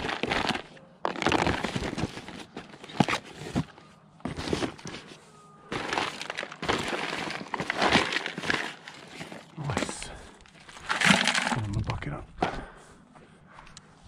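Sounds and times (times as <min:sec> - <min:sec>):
rummaging through scrap: 0:00.0 - 0:11.8.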